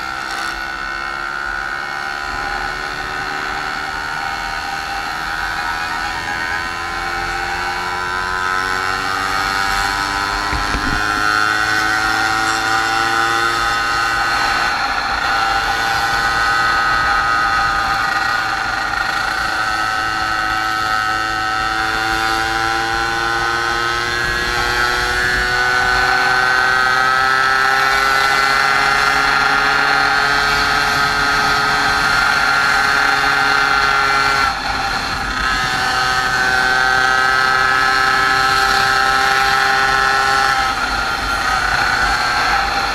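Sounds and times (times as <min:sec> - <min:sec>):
moped engine running: 0:00.0 - 0:42.9.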